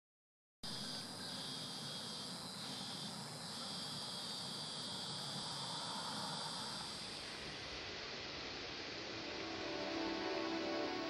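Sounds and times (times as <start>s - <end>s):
insects chorus: 0.7s - 11.0s.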